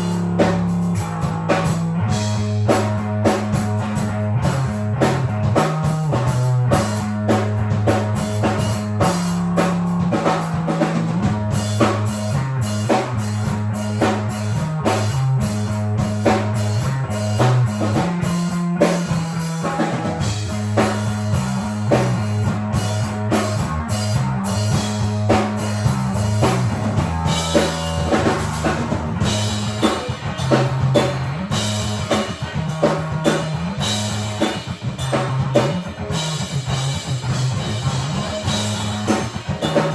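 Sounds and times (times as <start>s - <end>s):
bass line: 0.0s - 39.9s
drum kit beat: 0.0s - 39.9s
guitar: 0.0s - 39.9s.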